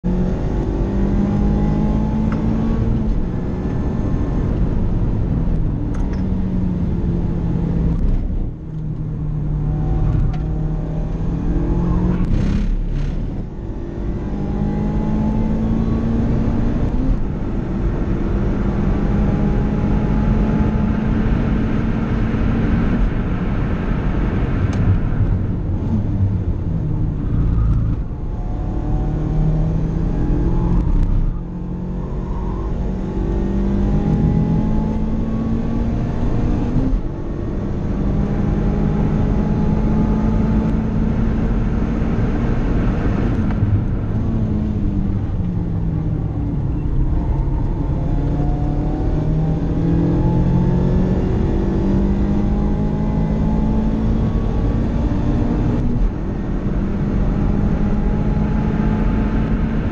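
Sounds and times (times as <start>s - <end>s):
car engine revving: 0.1s - 59.9s.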